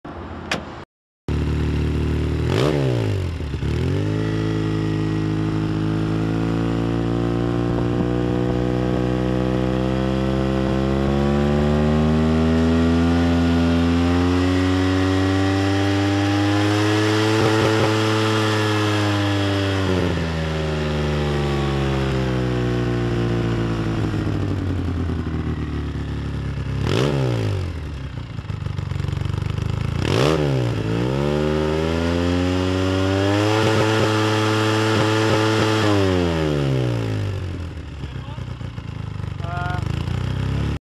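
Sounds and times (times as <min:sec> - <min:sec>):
engine idling and revving: 0:00.1 - 0:40.8.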